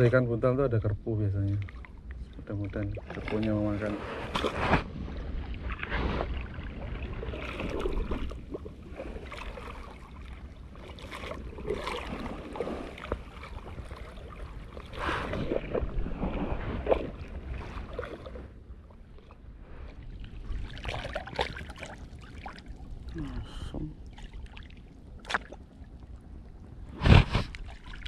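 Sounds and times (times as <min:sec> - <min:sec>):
small waves lapping: 0:01.3 - 0:28.0.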